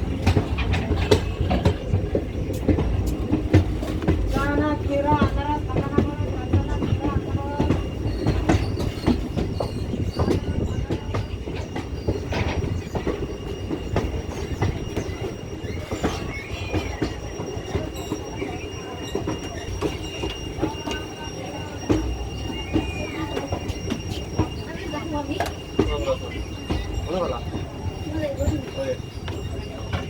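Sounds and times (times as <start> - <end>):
train rumbling: 0.0 - 30.0
wheels clicking over rail joints: 0.0 - 30.0.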